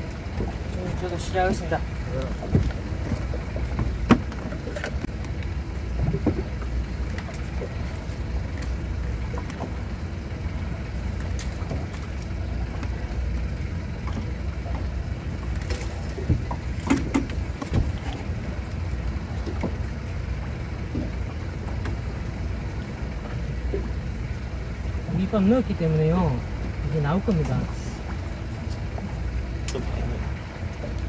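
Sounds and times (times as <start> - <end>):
low rumble of wind: 0.0 - 31.0
water around a boat: 0.0 - 31.0.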